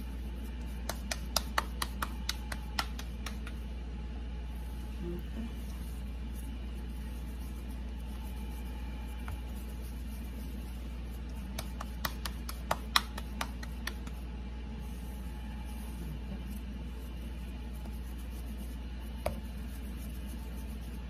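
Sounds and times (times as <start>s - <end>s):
hands patting dough: 0.0s - 21.0s
steady low hum: 0.0s - 21.0s.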